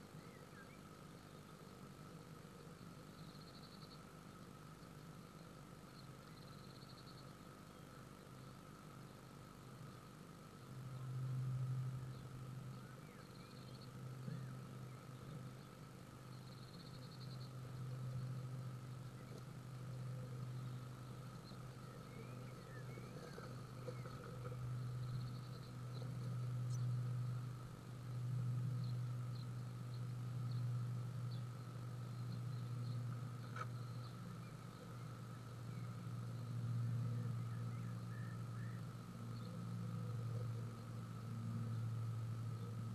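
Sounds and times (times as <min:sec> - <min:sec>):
low electrical hum: 0:00.0 - 0:42.9
nestling birds cheeping: 0:00.0 - 0:42.9.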